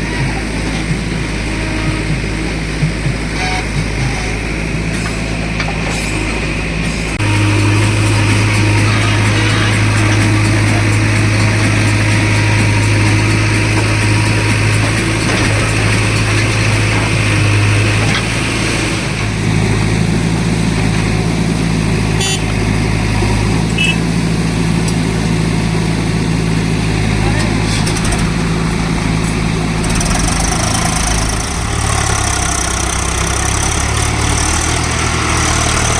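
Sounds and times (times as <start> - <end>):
heavy diesel engine running: 0.0 - 35.9.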